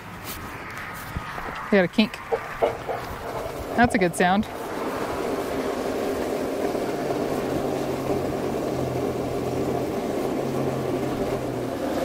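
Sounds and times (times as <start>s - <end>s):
water rushing through hose: 1.0s - 12.0s.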